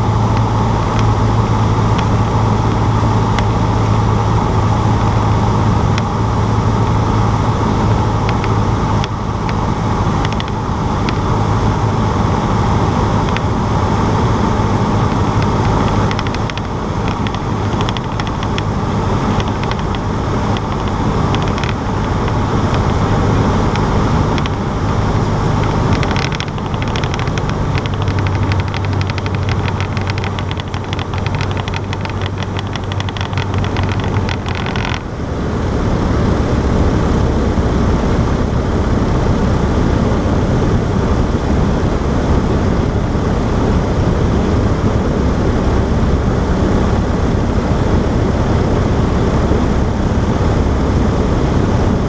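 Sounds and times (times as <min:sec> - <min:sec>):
aircraft piston engine and propeller: 0:00.0 - 0:52.0.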